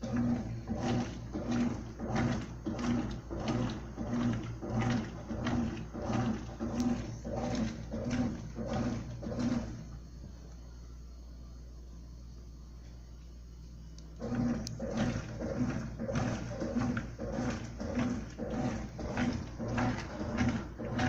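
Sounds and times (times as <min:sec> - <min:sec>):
washing machine agitating: 0:00.0 - 0:10.2, 0:14.2 - 0:21.0.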